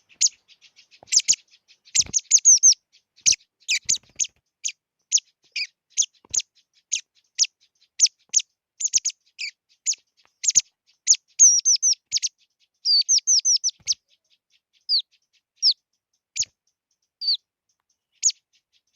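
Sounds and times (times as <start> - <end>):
songbird chirping: 0.0 - 18.9.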